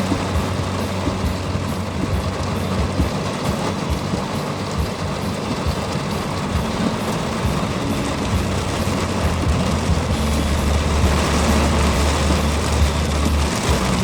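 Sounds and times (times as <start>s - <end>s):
car engine hum: 0.0s - 14.0s
tyre noise on road: 0.0s - 14.0s.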